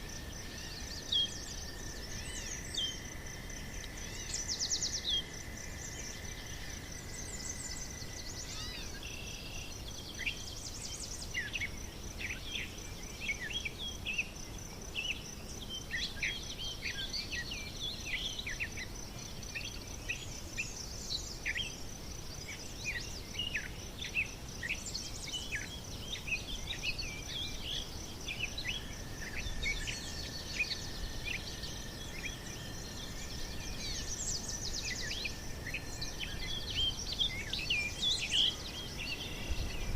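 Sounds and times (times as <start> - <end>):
insect trill: 0.0 - 39.9
outdoor ambience hiss: 0.0 - 39.9
small birds chirping: 0.0 - 39.9.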